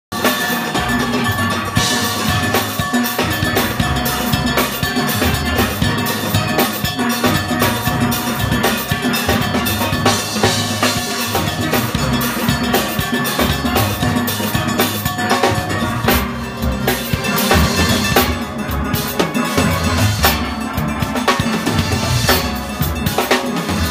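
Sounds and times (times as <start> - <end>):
drum kit and percussion: 0.1 - 23.9.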